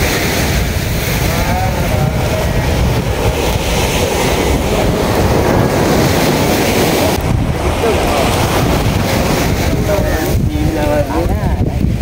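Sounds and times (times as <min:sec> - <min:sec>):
sea surf: 0:00.0 - 0:12.0
wind rumbling on microphone: 0:00.0 - 0:12.0.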